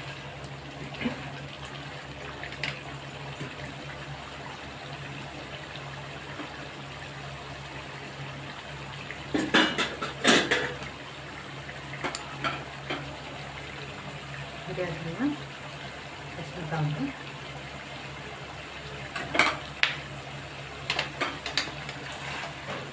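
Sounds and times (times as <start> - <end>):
gravy bubbling: 0.0 - 22.9.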